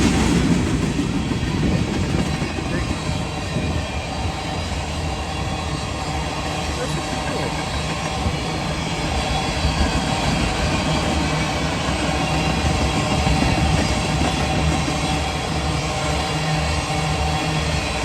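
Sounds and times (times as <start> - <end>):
freight train wheels clattering: 0.0 - 18.0.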